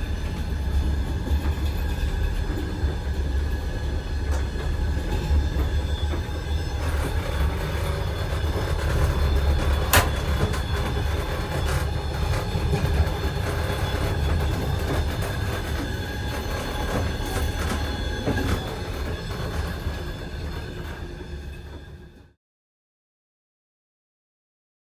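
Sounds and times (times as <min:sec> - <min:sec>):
train running rumble: 0:00.0 - 0:22.3.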